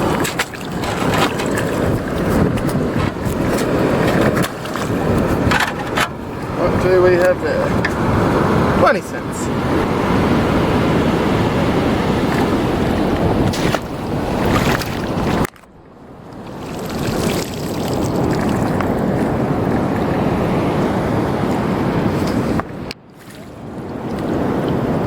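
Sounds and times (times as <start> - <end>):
waves and surf: 0.0 - 25.0
wind buffeting microphone: 0.0 - 25.0.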